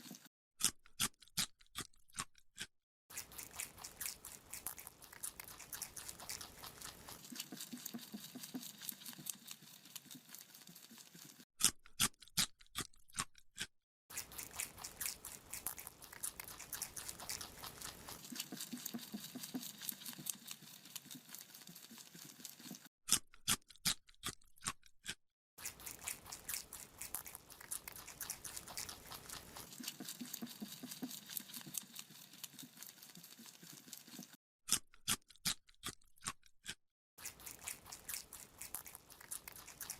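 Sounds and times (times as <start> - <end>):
rabbit chewing carrot crunching: 0.0 - 39.9.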